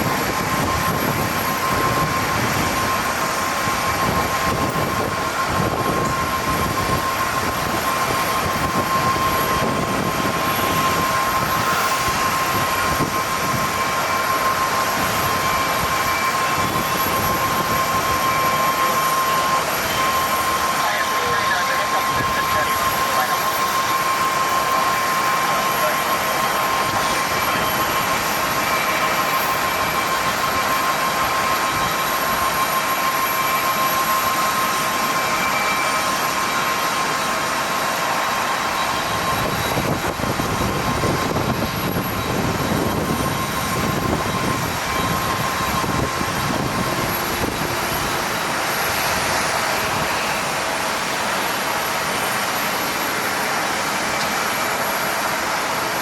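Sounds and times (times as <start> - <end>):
deep jet engine rumble: 0.0 - 56.0
jet engine rush: 0.0 - 56.0
jet engine whine: 0.0 - 56.0.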